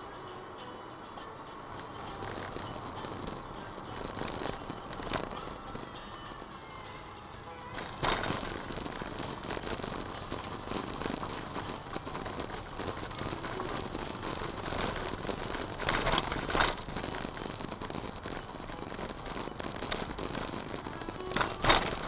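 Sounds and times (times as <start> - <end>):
tyres rattling on gravel: 0.0 - 22.0.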